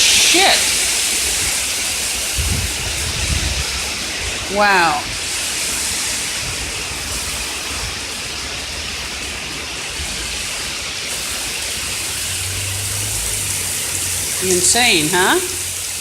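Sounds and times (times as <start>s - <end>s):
torrential rain pouring: 0.0s - 16.0s.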